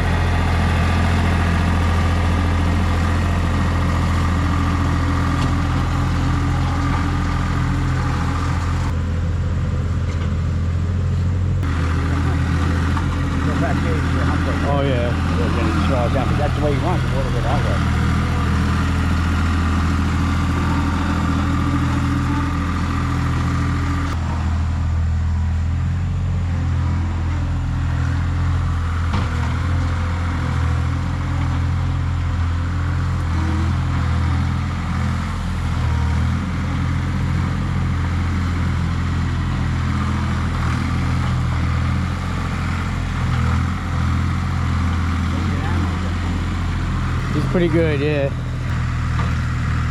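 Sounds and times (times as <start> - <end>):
skid steer engine running: 0.0 - 49.9.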